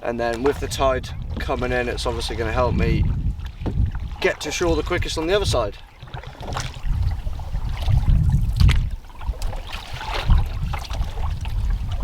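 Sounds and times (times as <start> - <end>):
paddle strokes splashing: 0.0 - 12.0
wind rumbling on microphone: 0.0 - 12.0
water trickling off paddle: 0.1 - 12.0.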